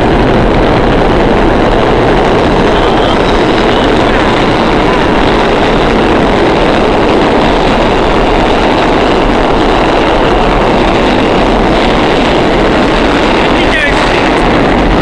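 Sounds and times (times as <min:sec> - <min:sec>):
subway platform rushing noise: 0:00.0 - 0:15.0.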